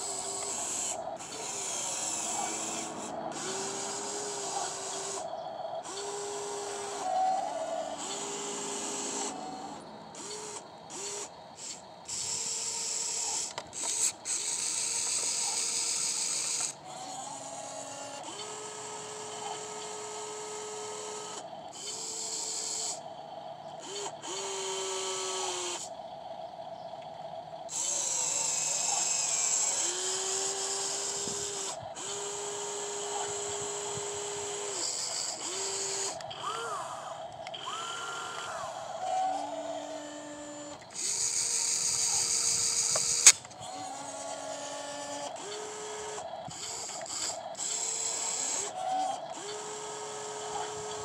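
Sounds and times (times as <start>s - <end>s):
electric motors whining: 0.0s - 51.0s.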